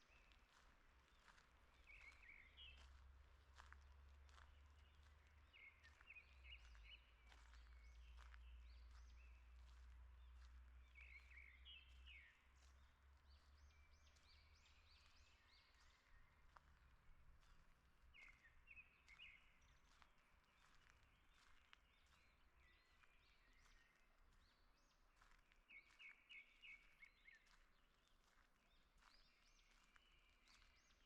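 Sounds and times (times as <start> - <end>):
faint songbirds chirping: 0.0 - 31.0.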